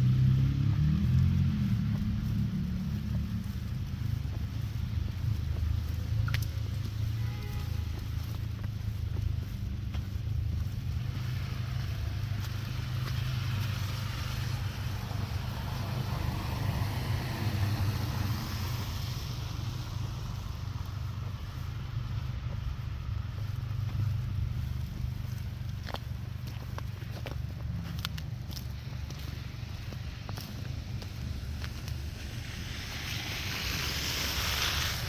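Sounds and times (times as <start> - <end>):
vehicle tyre hiss on snow: 0.0 - 35.0.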